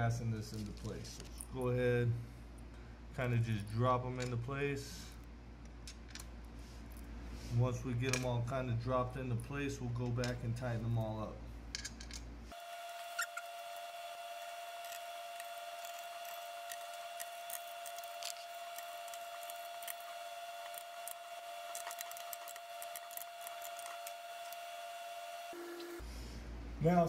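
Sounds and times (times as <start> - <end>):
steady high-pitched hum: 0.0 - 27.0.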